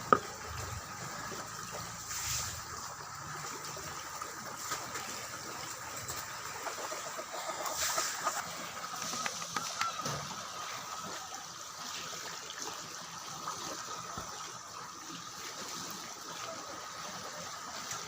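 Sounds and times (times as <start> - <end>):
water trickling and lapping: 0.0 - 18.0.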